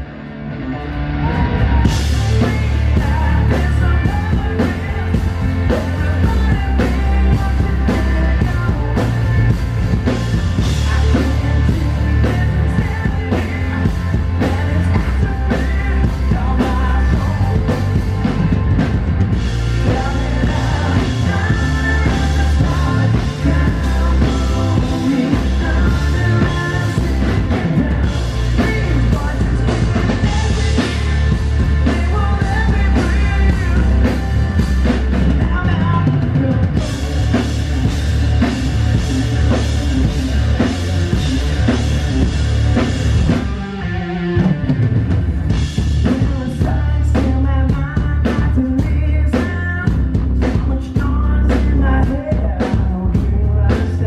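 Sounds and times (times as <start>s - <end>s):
male lead vocals: 0.0s - 44.8s, 45.5s - 54.0s
bass guitar: 0.0s - 54.0s
drum kit: 0.0s - 54.0s
electric guitars: 0.0s - 54.0s.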